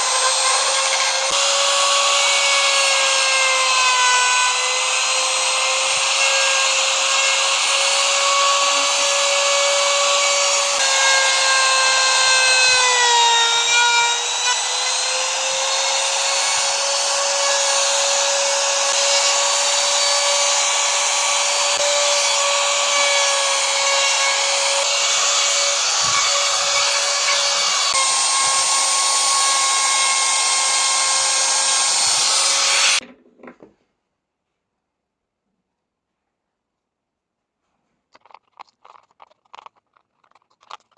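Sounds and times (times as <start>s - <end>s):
power tool whining against wood: 0.0s - 33.0s.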